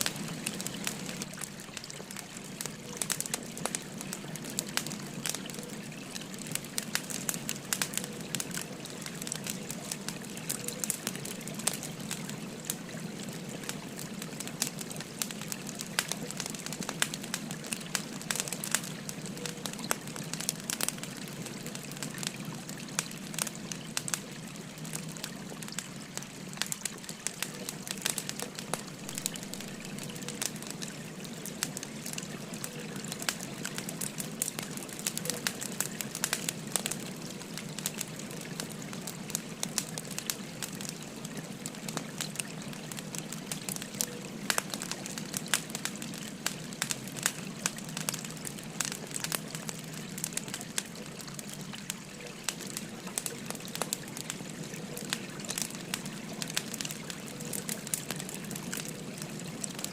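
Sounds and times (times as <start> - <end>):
babbling stream trickling: 0.0 - 59.9
wood fire crackling and popping: 0.0 - 59.9.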